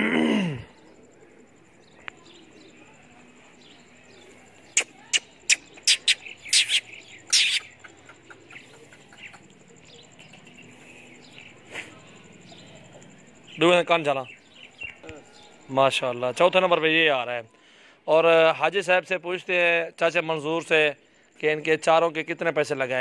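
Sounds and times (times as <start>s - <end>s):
small birds chirping: 0.4s - 23.0s.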